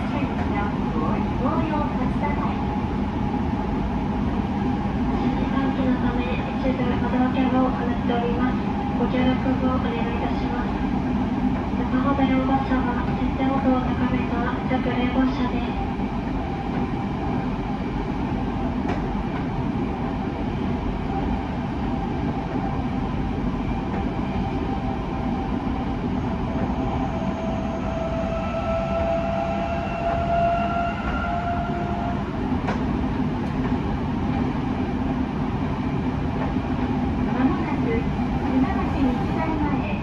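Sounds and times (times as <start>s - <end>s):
electric train rumble and whine: 0.0s - 40.0s.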